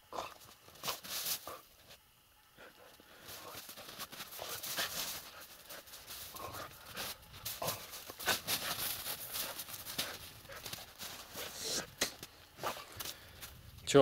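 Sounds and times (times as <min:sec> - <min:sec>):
dog digging in snow: 0:00.1 - 0:02.0, 0:02.6 - 0:13.0.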